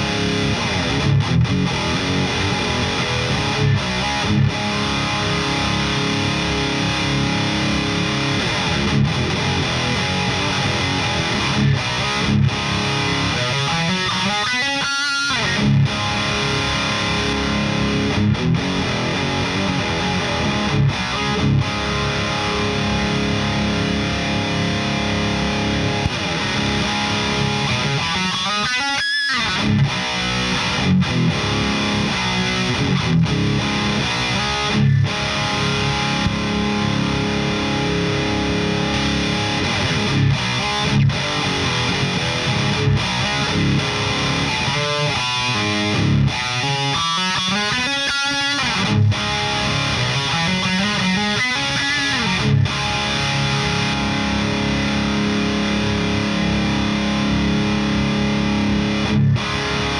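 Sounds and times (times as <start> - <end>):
distorted electric guitar riffs: 0.0 - 59.9.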